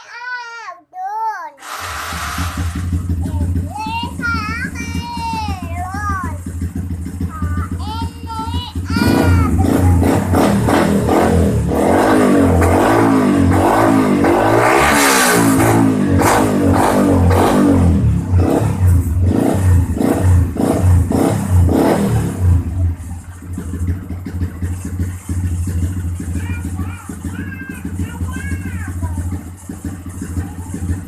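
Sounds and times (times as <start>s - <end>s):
motorcycle engine revving: 1.6s - 31.0s.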